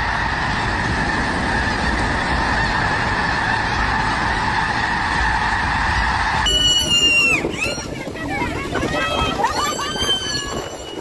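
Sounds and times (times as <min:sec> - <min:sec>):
flock of geese honking: 0:00.0 - 0:11.0.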